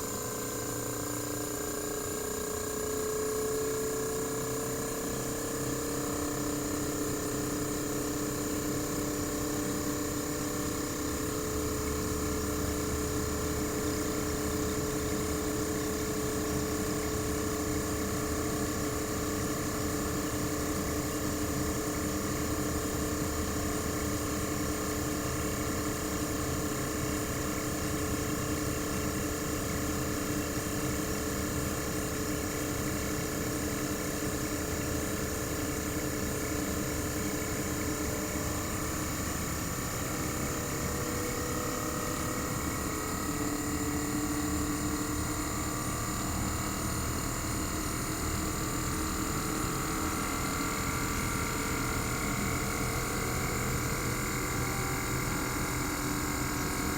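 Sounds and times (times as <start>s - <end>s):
compressor humming with whining tones: 0.0s - 56.9s.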